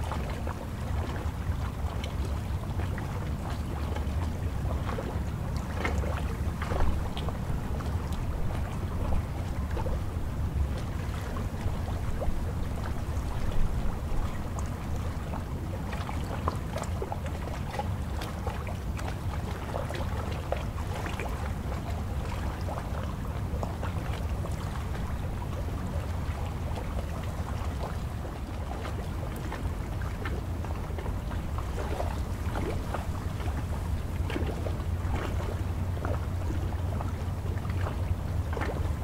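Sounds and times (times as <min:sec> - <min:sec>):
waves lapping and splashing: 0:00.0 - 0:39.0
wind rumble on microphone: 0:00.0 - 0:39.0.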